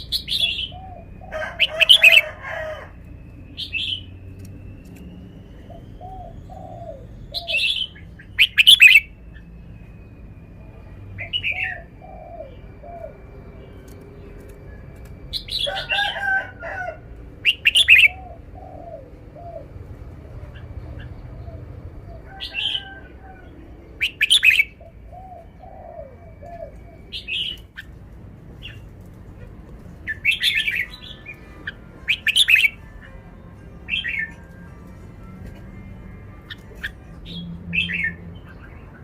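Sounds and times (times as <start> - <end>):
bird song phrases: 0.0 - 16.4, 17.4 - 39.0.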